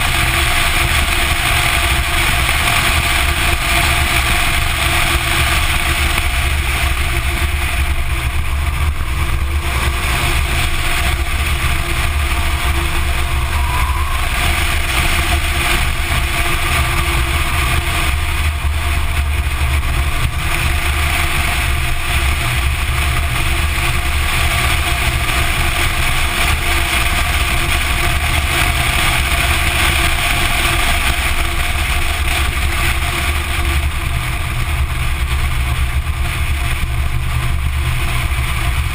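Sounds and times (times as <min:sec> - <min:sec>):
car engine: 0:00.0 - 0:38.9
wind rumble on microphone: 0:00.0 - 0:38.9.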